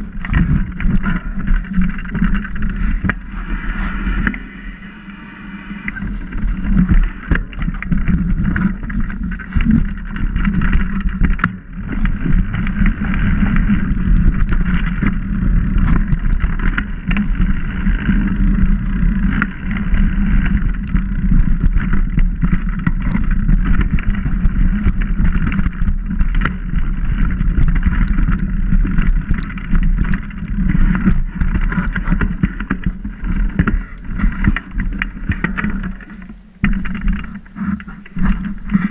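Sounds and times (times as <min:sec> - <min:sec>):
bike knocks and rattles: 0:00.0 - 0:05.0, 0:05.8 - 0:38.9
bike tyres rumbling on dirt: 0:00.0 - 0:38.9
wind noise: 0:00.0 - 0:38.9.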